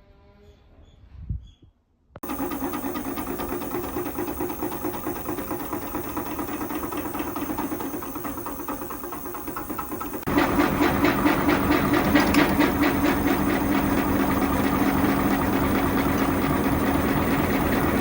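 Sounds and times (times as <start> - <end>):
machine buzzing: 2.2 - 18.0.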